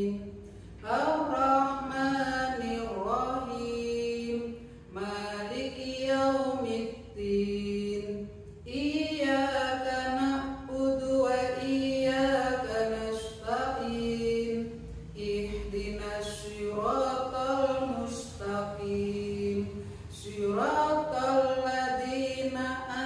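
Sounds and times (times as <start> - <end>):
woman chanting a prayer: 0.0 - 23.0.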